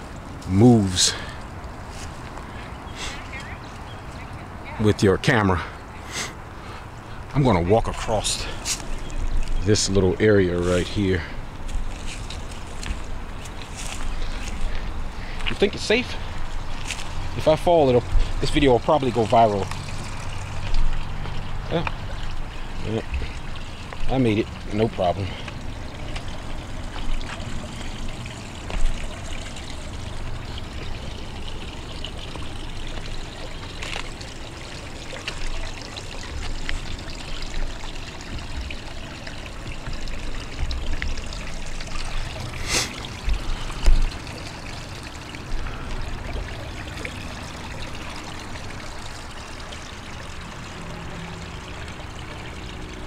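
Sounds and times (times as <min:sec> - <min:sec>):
creek trickling over rocks: 0:00.0 - 0:53.0.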